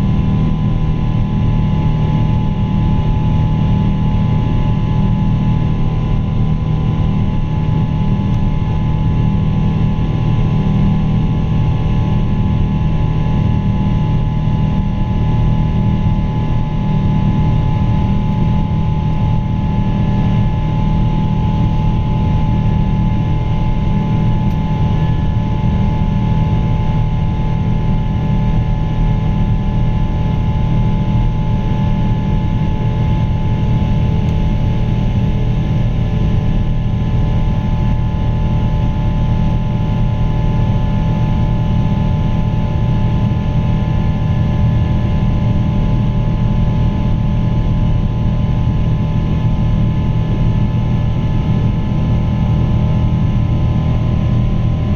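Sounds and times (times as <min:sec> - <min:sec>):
jet engines rumbling: 0:00.0 - 0:46.4
whining fan tones: 0:00.0 - 0:54.9.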